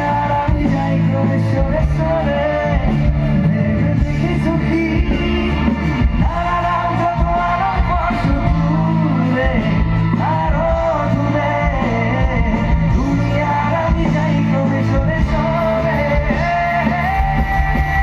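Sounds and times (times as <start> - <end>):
loud backing music: 0.0 - 18.0
man singing into microphone: 0.0 - 18.0.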